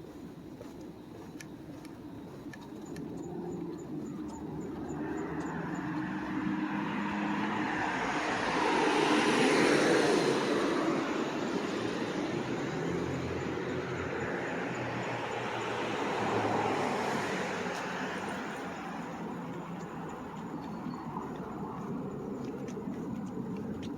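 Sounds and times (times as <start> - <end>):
vehicle passing: 2.8 - 23.9.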